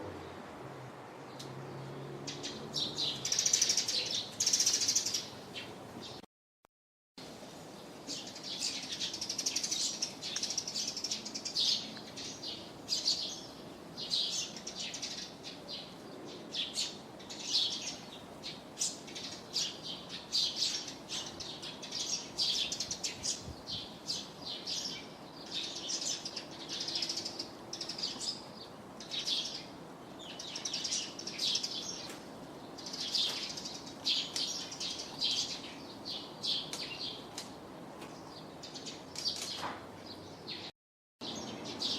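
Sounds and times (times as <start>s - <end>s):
faint outdoor background noise: 0.0s - 6.3s, 7.2s - 41.9s
small birds chirping: 1.2s - 6.2s, 7.3s - 41.9s.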